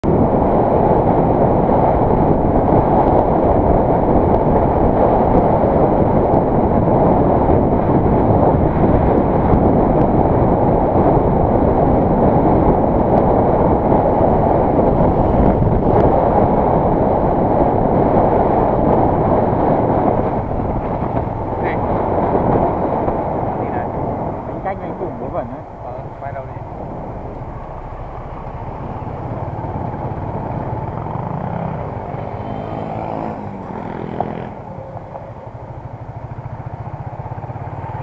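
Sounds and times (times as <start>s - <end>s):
road noise: 0.0s - 38.0s
wind rushing on microphone: 0.0s - 38.0s.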